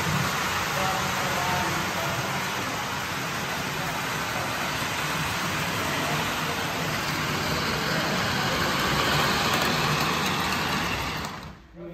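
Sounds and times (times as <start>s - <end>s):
model train running on track: 0.0s - 11.6s.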